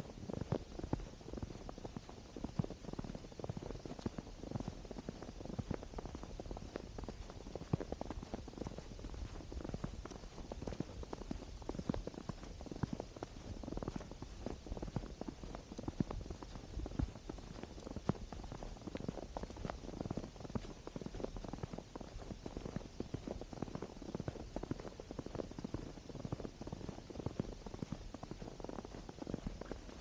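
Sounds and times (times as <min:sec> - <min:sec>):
steady low rumble: 0:00.0 - 0:25.1
footsteps crunching in snow: 0:00.0 - 0:30.0.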